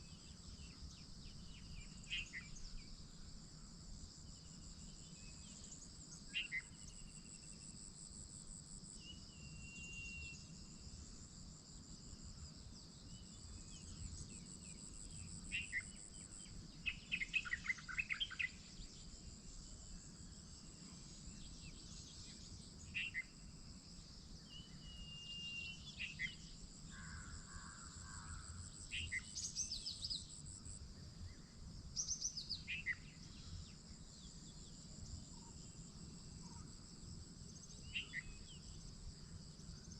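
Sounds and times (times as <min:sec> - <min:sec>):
insects trilling: 0:04.2 - 0:39.9.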